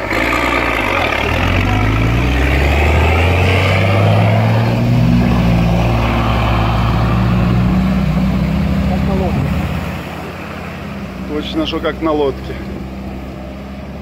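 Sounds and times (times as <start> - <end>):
diesel engine under load: 0.0 - 14.0
water rushing and splashing: 0.0 - 14.0.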